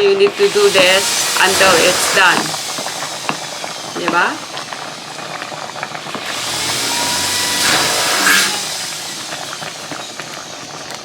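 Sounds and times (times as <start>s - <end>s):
pot being stirred: 0.0s - 11.0s
sauce boiling and bubbling: 0.0s - 11.0s
rushing hiss: 0.2s - 10.5s.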